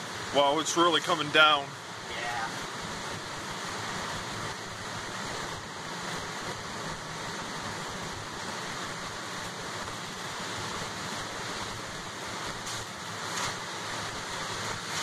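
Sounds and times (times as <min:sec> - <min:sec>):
heavy rain: 0:00.0 - 0:15.0
tyres on wet road: 0:00.0 - 0:15.0.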